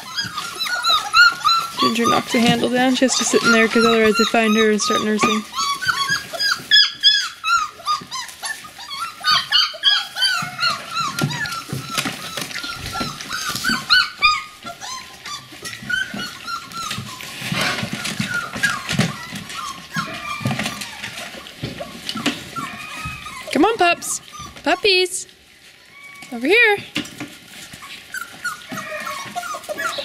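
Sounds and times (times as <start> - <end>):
puppies whining and squeaking: 0.0 - 30.0.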